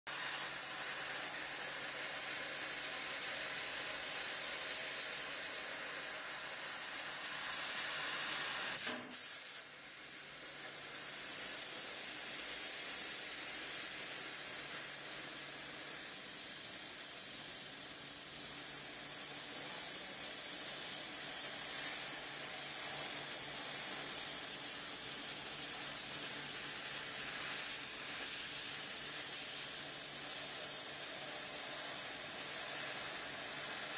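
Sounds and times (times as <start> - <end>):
laser cutter gas jet hiss: 0.1 - 33.9.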